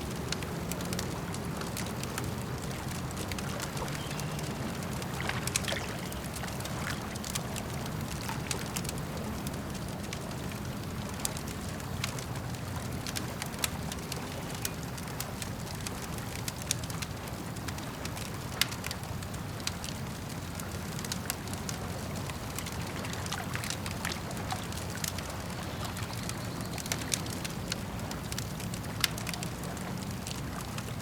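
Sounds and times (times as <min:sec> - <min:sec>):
campfire crackling: 0:00.0 - 0:31.0
low fire rumble: 0:00.0 - 0:31.0.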